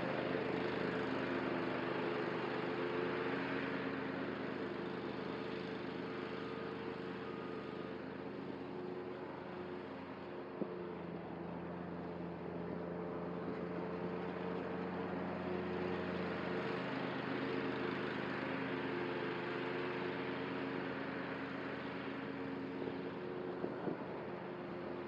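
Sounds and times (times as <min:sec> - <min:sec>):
mower engine droning: 0:00.0 - 0:25.0.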